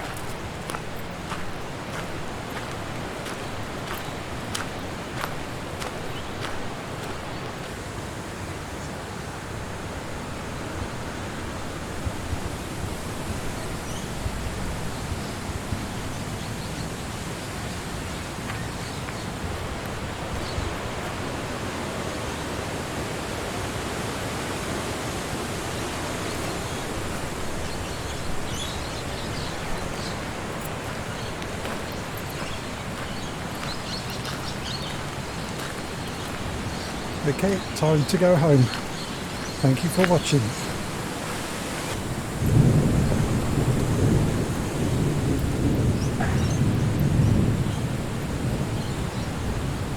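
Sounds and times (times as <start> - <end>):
wind rushing through trees: 0.0 - 49.9.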